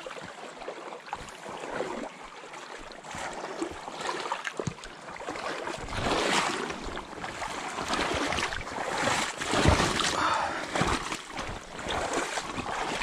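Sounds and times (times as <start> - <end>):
creek water splashing: 0.0 - 13.0.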